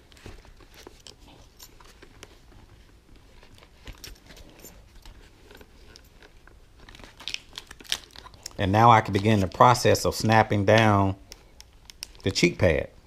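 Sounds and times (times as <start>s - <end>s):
rustling of helmet padding: 0.0s - 12.8s.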